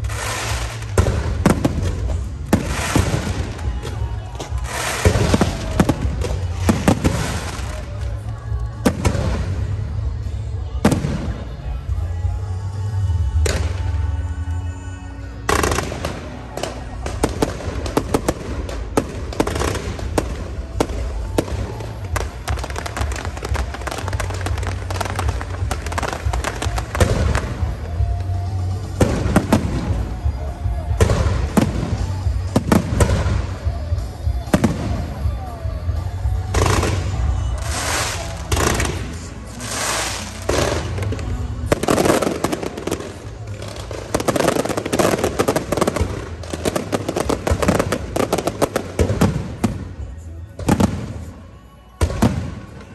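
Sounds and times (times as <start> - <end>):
fireworks bangs: 0.0 - 12.0, 15.4 - 51.4, 52.0 - 52.9.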